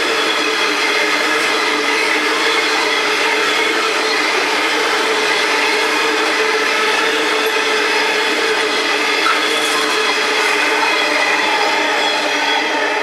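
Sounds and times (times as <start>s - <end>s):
train wheels rolling on track: 0.0s - 13.0s.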